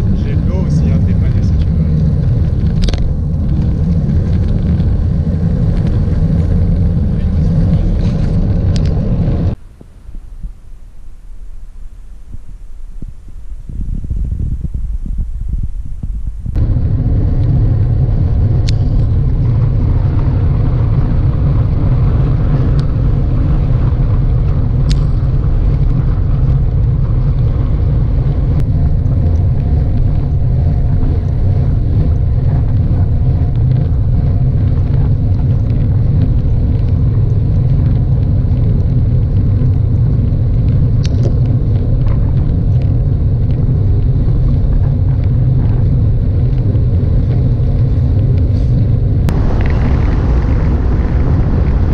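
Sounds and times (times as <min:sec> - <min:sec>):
bike tyre road rumble: 0:00.0 - 0:51.9
wind on microphone: 0:00.0 - 0:51.9.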